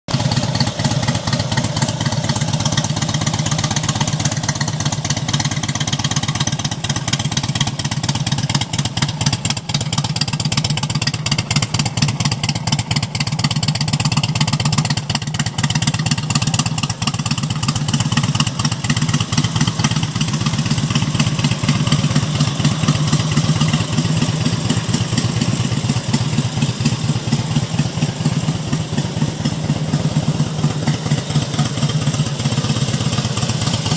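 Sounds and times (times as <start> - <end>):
motorcycle engine running steadily: 0.1 - 33.9.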